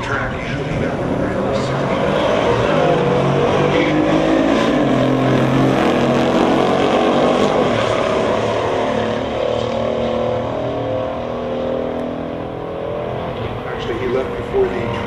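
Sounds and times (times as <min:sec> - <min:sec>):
muscle car engines running loud: 0:00.0 - 0:15.0.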